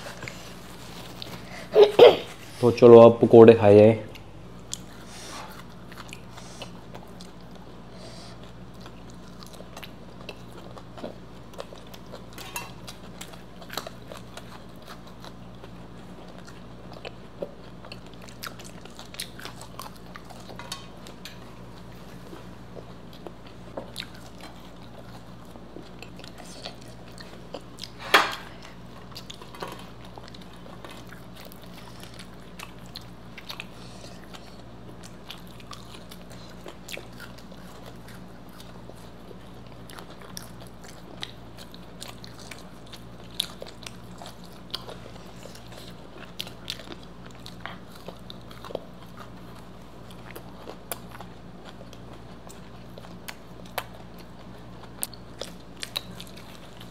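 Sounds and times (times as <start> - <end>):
chewing crisp fried food: 0.0 - 1.7, 4.1 - 56.9
faint low hum: 0.0 - 56.9.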